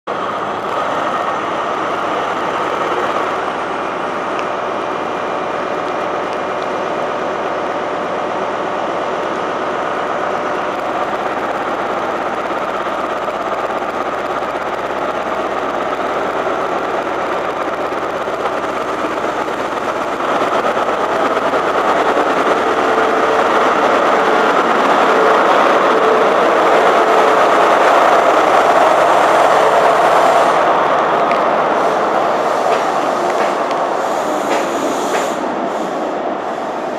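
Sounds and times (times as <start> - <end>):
train diesel engine working: 0.1 - 36.9.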